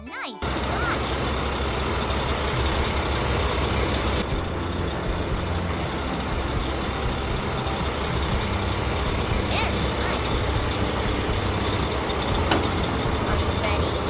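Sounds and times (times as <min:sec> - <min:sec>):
heavy vehicle engine drone: 0:00.4 - 0:14.0.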